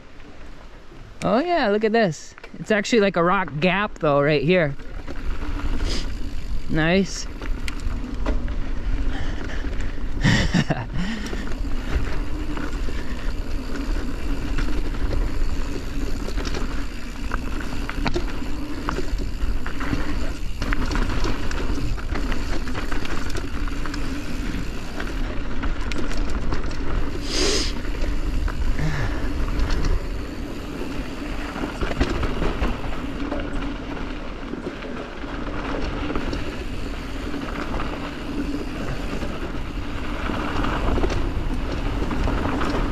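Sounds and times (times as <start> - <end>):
bike rattling: 0.0 - 42.9
tyres rumbling on dirt and rock: 2.7 - 42.9.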